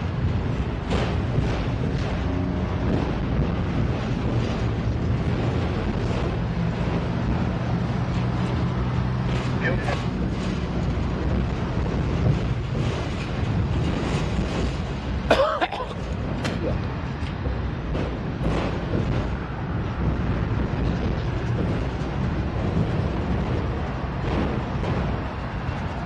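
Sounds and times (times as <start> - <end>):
freight train wheels on rail: 0.0 - 26.0.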